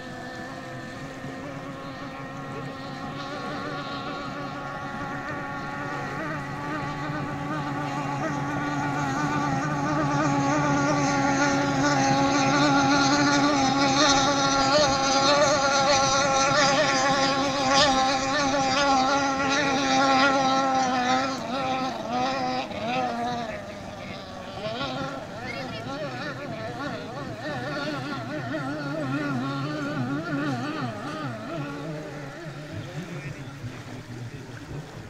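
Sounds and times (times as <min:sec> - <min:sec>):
racing outboard motor at high revs: 0:00.0 - 0:35.0.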